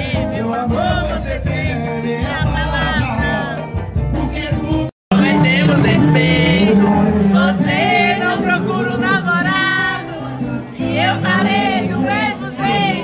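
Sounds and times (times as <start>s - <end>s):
instrumental backing: 0.0s - 13.0s
person singing: 0.0s - 13.0s.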